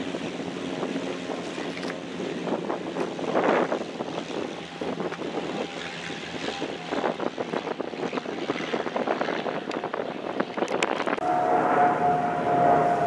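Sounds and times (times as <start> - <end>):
aircraft engine: 0.0 - 13.0
wind on microphone: 0.0 - 13.0.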